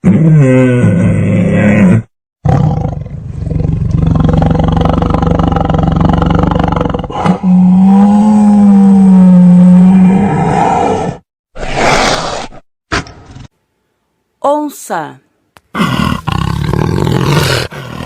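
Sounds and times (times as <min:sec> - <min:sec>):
tiger roaring: 0:00.0 - 0:12.5, 0:15.8 - 0:18.0.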